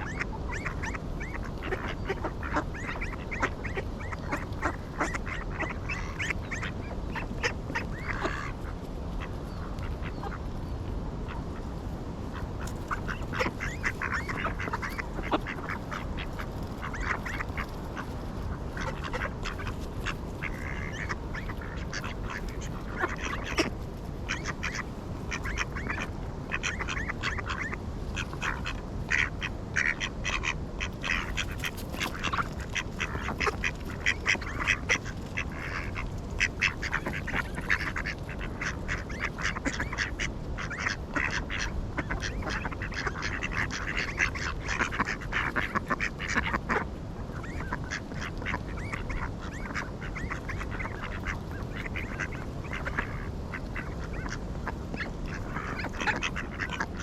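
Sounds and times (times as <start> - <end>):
ducks quacking: 0.0 - 57.0
low background rumble: 0.0 - 57.0.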